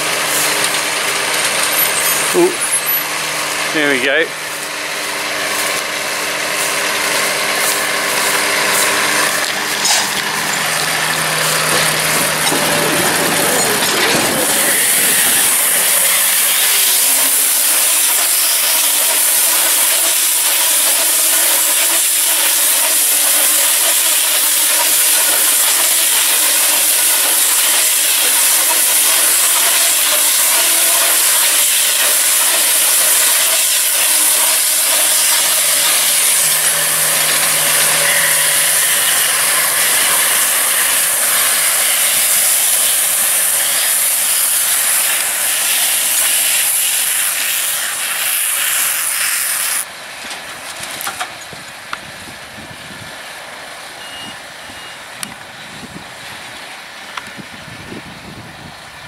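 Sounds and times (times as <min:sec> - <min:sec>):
baler machine hissing: 0:00.0 - 0:49.8.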